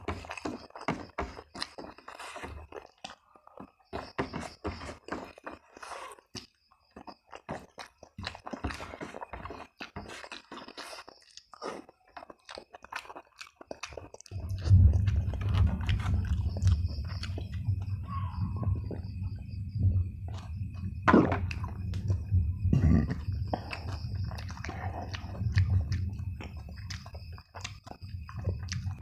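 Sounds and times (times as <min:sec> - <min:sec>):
close chewing and crunching: 0:00.0 - 0:29.0.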